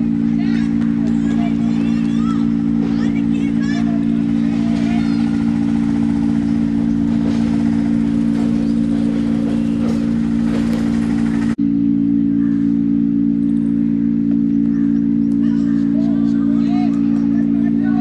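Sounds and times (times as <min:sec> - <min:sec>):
engine-like hum: 0:00.0 - 0:18.0.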